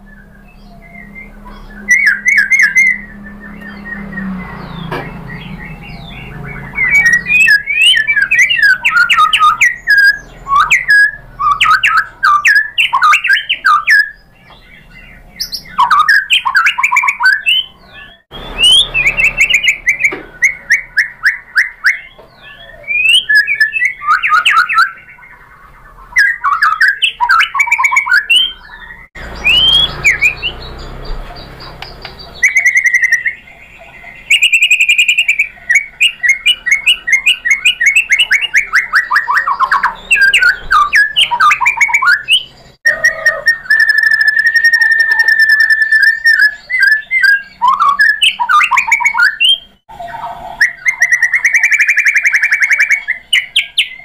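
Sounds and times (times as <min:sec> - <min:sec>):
songbird singing whistled phrases: 0:00.0 - 0:54.0.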